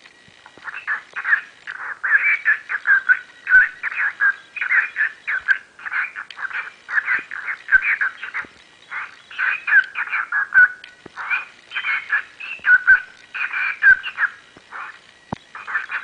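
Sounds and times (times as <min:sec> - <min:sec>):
cockatiels chirping: 0:00.6 - 0:16.0.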